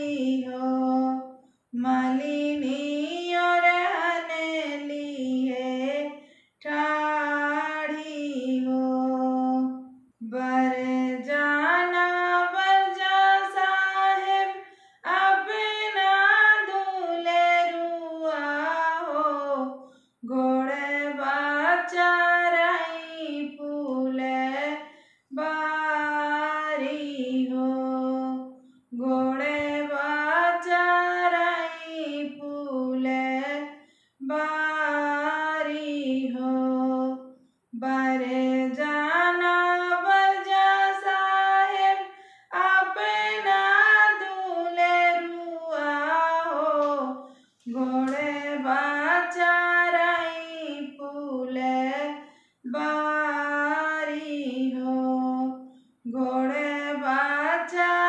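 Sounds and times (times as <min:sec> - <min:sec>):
woman singing unaccompanied: 0:00.0 - 0:58.0.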